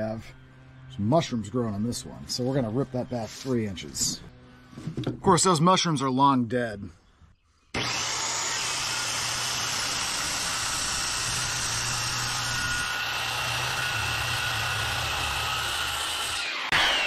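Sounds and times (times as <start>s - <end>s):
circular saw cutting wood: 0.0s - 4.4s, 7.7s - 17.0s.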